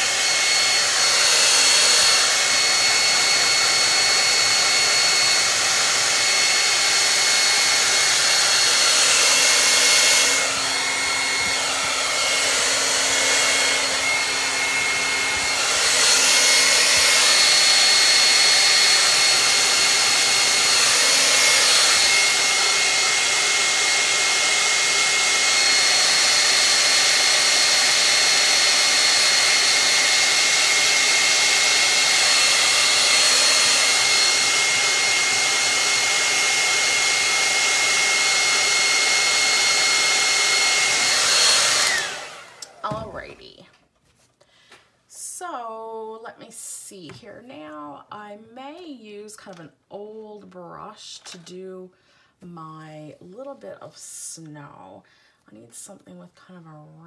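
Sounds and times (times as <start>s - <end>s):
hair dryer blowing: 0.0s - 43.7s, 44.6s - 51.6s.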